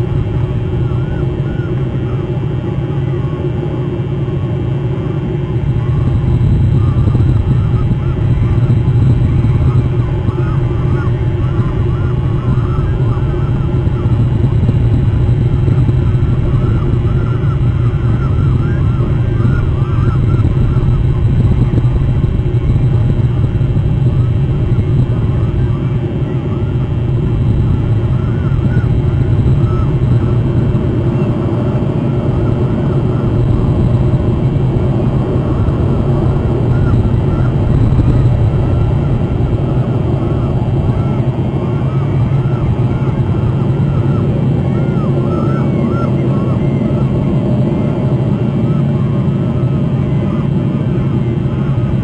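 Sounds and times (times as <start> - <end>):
gulls calling: 0.0 - 52.0
loud low rumble: 4.8 - 52.0.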